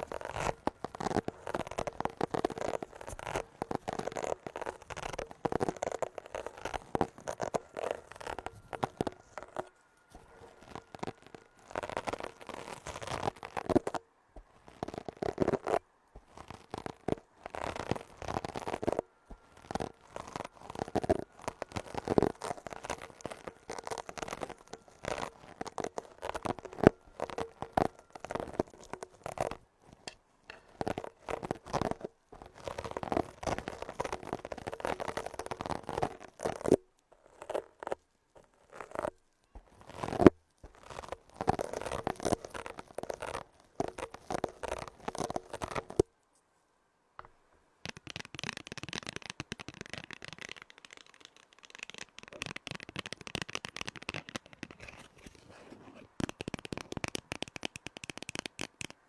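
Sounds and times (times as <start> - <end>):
gritty scratching and rubbing: 0.0 - 46.1, 47.2 - 59.0.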